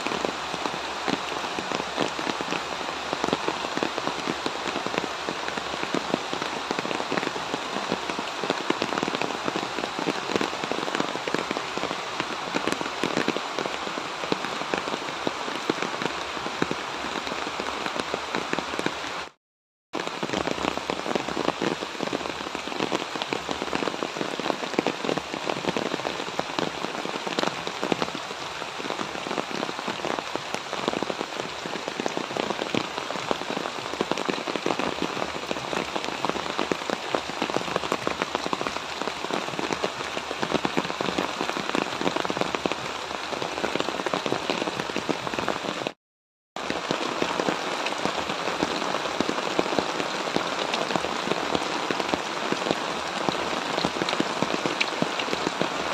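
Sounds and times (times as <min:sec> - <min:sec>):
light rain on leaves: 0:00.0 - 0:19.4, 0:20.0 - 0:46.0, 0:46.6 - 0:55.9.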